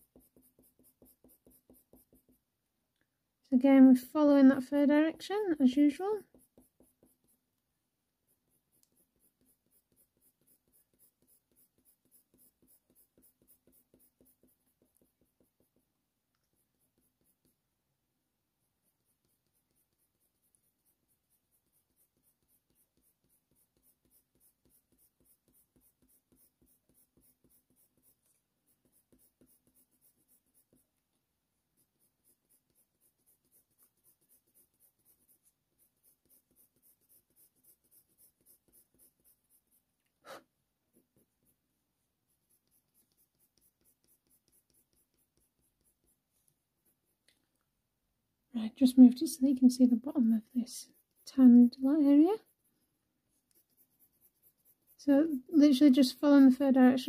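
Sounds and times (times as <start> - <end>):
coloured pencil scratching on paper: 0.0 - 2.5, 3.7 - 17.8, 18.5 - 47.2, 48.7 - 57.0.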